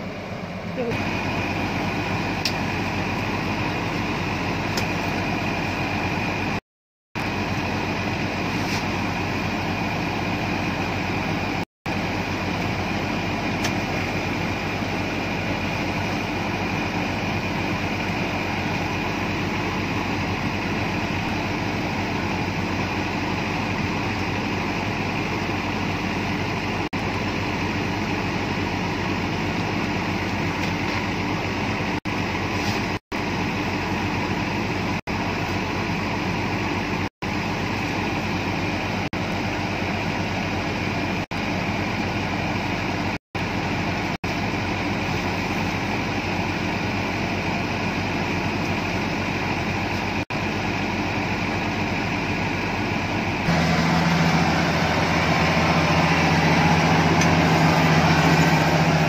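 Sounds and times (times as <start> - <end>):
harvester engine drone: 0.0 - 6.6, 7.2 - 59.0
high machine whine: 7.2 - 59.0.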